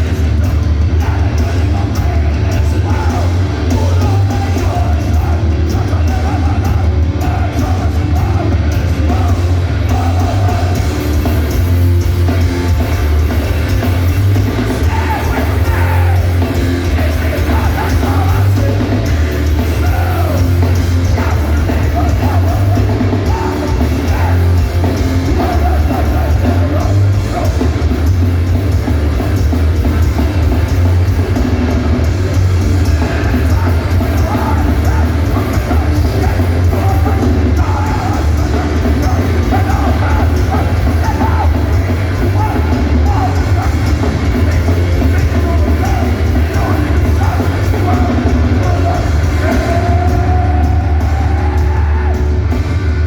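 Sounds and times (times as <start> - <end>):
punk band playing live: 0.0 - 53.0.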